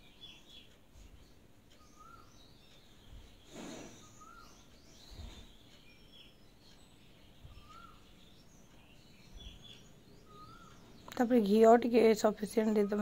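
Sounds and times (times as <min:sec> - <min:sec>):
birdsong: 0:00.0 - 0:13.0.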